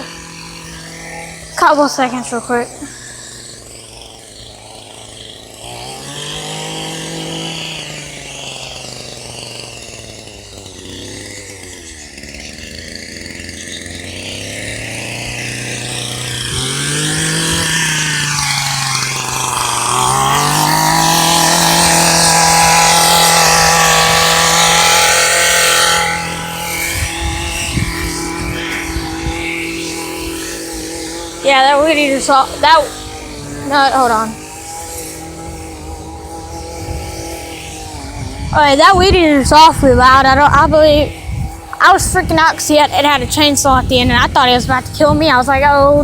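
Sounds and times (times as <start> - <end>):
weed eater engine revving: 0.0 - 46.0.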